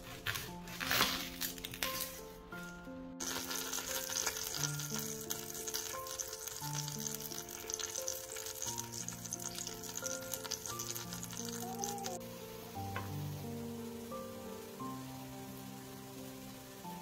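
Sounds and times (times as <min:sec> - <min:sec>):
soft background music: 0:00.0 - 0:17.0
spices sizzling in hot oil: 0:03.2 - 0:17.0.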